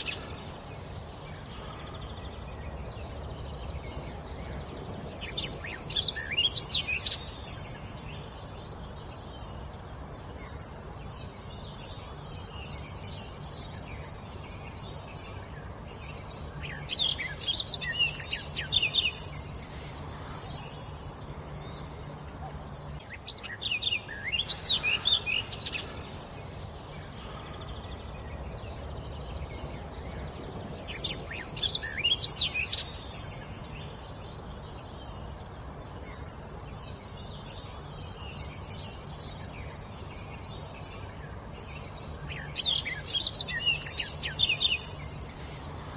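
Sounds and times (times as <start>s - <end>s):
low background rumble: 0.0s - 45.9s
songbird singing: 0.0s - 45.9s.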